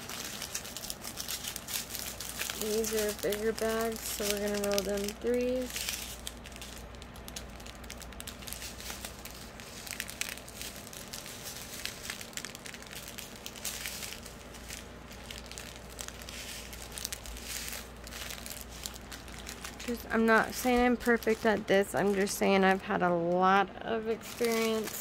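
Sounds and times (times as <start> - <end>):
plastic bags crinkling: 0.0 - 23.5, 24.1 - 25.0.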